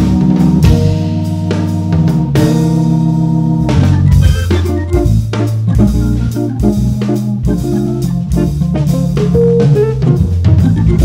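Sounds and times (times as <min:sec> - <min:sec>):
bass line: 0:00.0 - 0:11.0
drum kit beat: 0:00.0 - 0:11.0
electric guitar: 0:00.0 - 0:11.0
jazz organ: 0:00.0 - 0:11.0.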